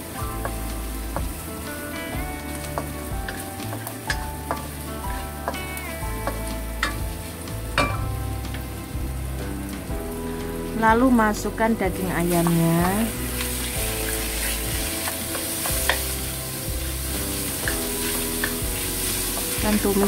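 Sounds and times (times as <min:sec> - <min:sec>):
spatula scraping and tapping wok: 0:00.0 - 0:08.7, 0:12.3 - 0:20.0
food sizzling in hot oil: 0:00.0 - 0:20.0.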